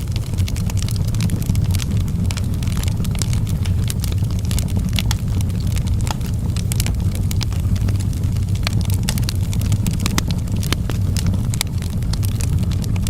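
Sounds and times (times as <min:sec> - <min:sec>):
fire crackling and popping: 0:00.0 - 0:13.0
low rumble: 0:00.0 - 0:13.0.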